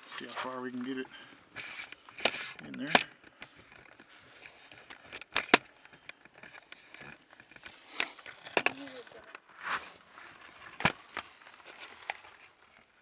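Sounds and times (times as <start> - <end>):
camera knocking and scraping on stone: 0.7 - 12.9.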